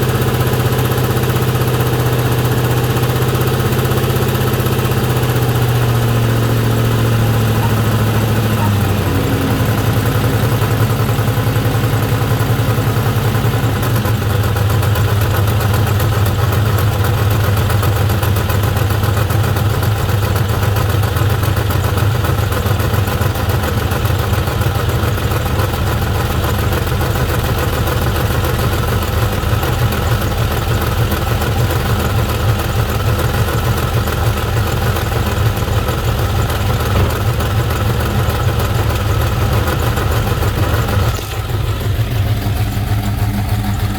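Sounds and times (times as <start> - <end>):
engine idling: 0.0 - 43.9
engine ticking and clacking: 0.0 - 43.9.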